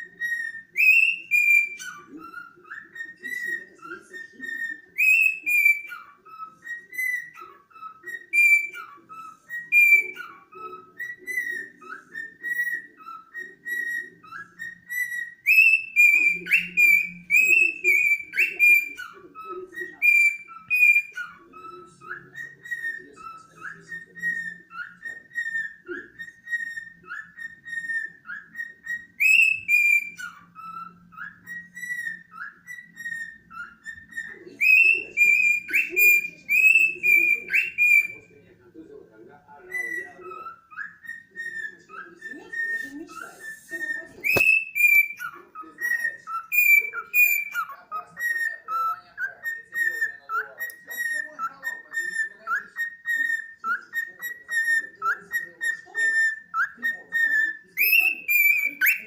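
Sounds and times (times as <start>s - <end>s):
bird chattering softly: 0.0s - 59.0s
cockatiel whistling a tune: 0.0s - 59.0s.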